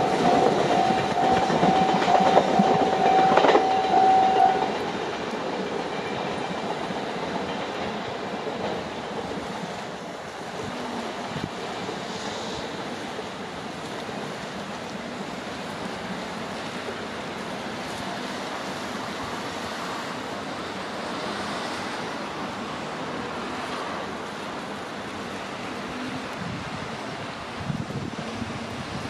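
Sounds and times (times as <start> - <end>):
freight train wheels on track: 0.0 - 29.0.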